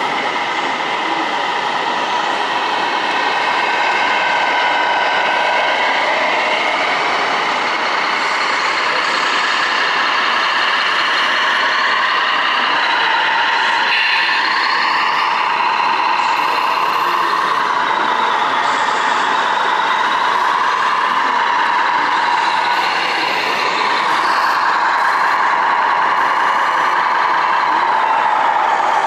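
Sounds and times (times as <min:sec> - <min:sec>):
electronic diesel engine sound: 0:00.0 - 0:29.0.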